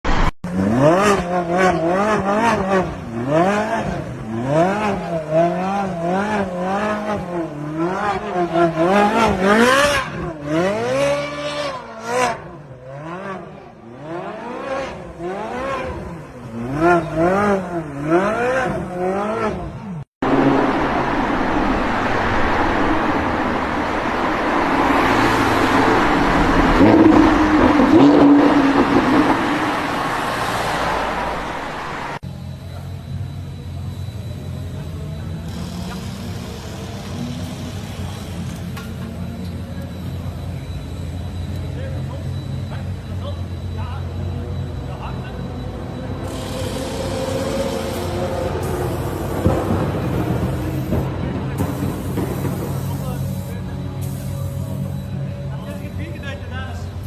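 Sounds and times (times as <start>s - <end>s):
road and tyre noise: 0.0s - 57.0s
car driving with steady engine: 0.1s - 57.0s.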